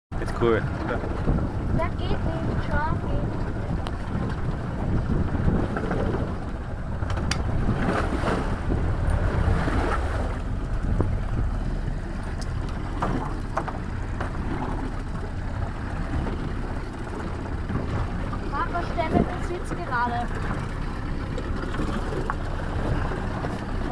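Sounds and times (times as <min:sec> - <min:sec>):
water rushing around boat: 0:00.1 - 0:23.9
wind buffeting microphone: 0:00.2 - 0:23.9.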